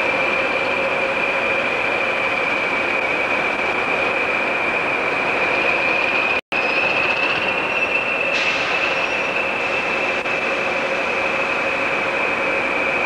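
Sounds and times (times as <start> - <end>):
train running noise: 0.0 - 13.0
train wheels squealing: 0.0 - 13.0.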